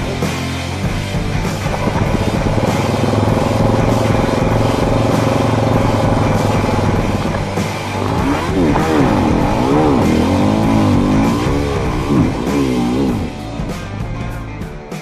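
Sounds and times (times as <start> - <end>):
rock guitar music: 0.0 - 15.0
dirt bike engine revving: 1.0 - 14.0.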